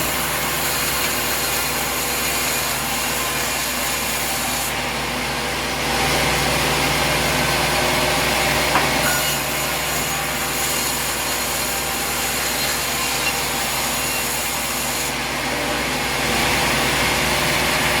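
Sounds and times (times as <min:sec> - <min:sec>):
sawmill blade cutting log: 0:00.0 - 0:18.0.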